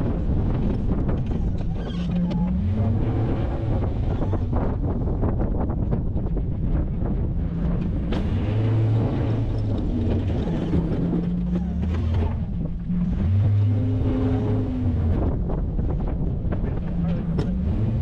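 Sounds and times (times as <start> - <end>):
truck engine under load: 0.0 - 18.0.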